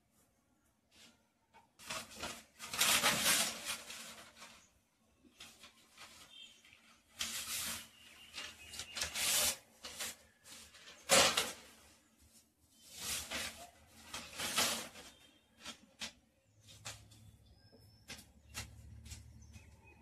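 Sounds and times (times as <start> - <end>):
newspaper rustling and crinkling: 0.9 - 19.8.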